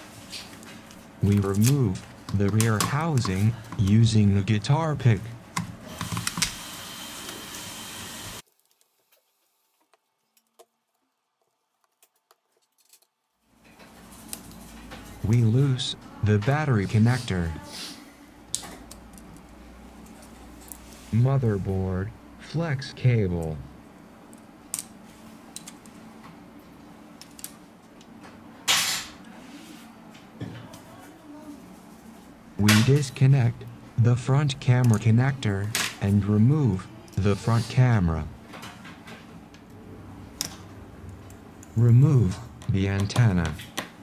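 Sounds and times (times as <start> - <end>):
faint steady hum: 0.0 - 8.4, 13.5 - 44.0.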